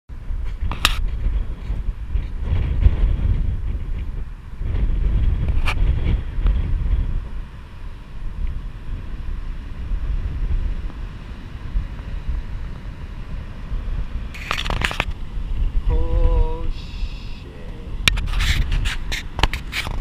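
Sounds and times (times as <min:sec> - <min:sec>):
wind buffeting microphone: 0:00.1 - 0:20.0
heavy surf rushing: 0:00.2 - 0:20.0.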